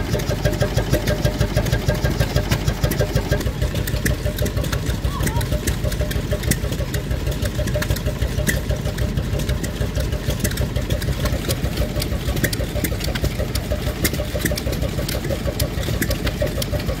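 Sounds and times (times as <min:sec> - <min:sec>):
engine running with rapid beat: 0:00.0 - 0:17.0
sharp ticks: 0:00.3 - 0:17.0.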